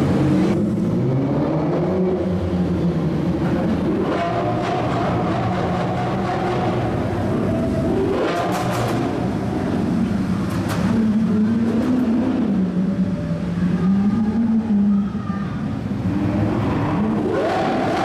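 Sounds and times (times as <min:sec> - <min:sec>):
supercar engine revving in tunnel: 0:00.0 - 0:18.0.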